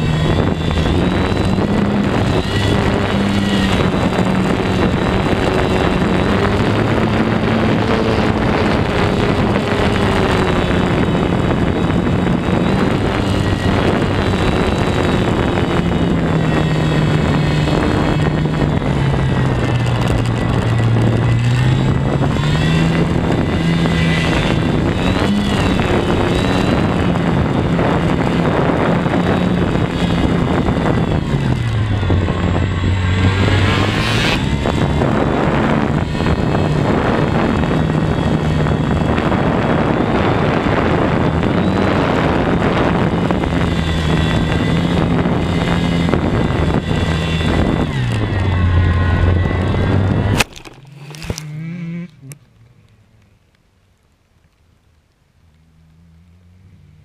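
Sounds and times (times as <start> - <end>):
model plane electric motor: 0.0 - 51.7
wind rushing over microphone: 0.0 - 52.4.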